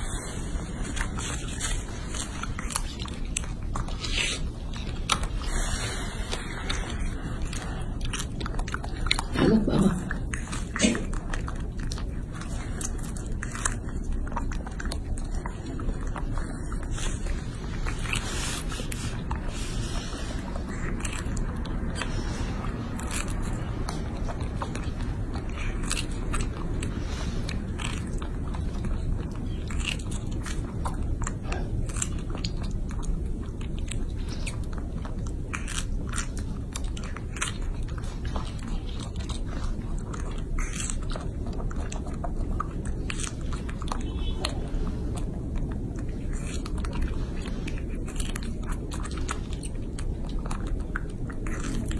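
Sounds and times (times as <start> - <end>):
low background noise: 0.0 - 51.9
monkey chewing with mouth clicks: 0.0 - 51.9.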